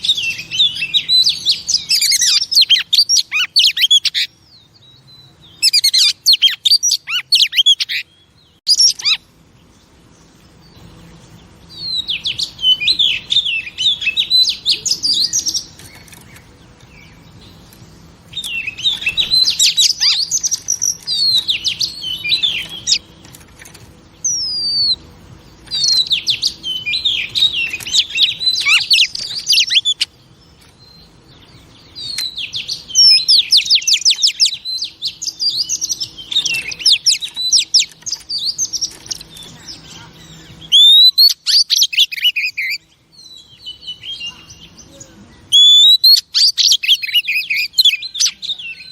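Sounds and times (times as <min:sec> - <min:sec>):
bird singing chirps and whistles: 0:00.0 - 0:09.3, 0:10.5 - 0:23.3, 0:24.2 - 0:48.9.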